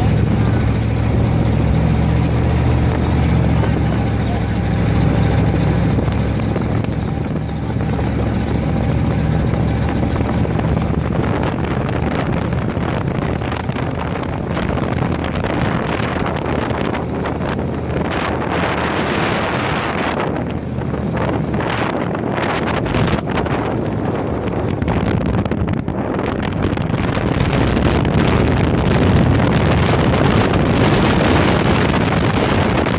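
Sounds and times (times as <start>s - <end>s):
dune buggy engine drone: 0.0s - 32.9s
wind buffeting microphone: 0.0s - 32.9s.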